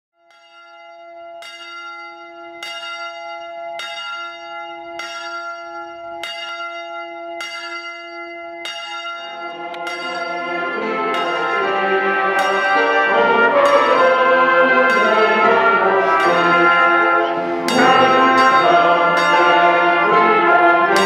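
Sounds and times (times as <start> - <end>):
church bell tolling: 0.3 - 21.0.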